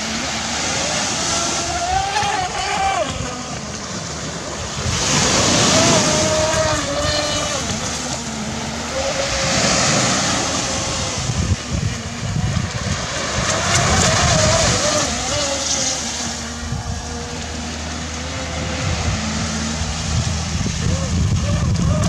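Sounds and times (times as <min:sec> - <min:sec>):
electric motor whine: 0:00.0 - 0:22.0
surf breaking: 0:00.0 - 0:22.0
wind noise on microphone: 0:00.0 - 0:22.0.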